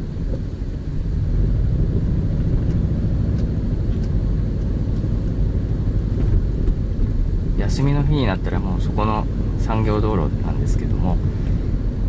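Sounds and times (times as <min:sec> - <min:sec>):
car engine rumble from inside cabin: 0:00.0 - 0:12.0.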